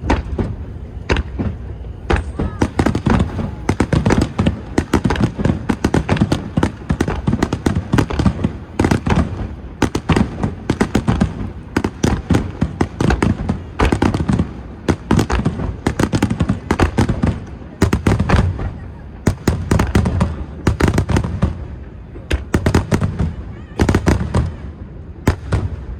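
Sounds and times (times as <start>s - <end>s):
fireworks bursting: 0.0s - 25.9s.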